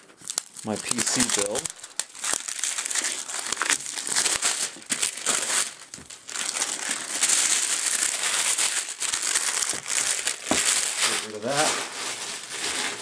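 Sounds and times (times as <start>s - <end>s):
plastic shrink wrap crinkling: 0.0s - 13.0s.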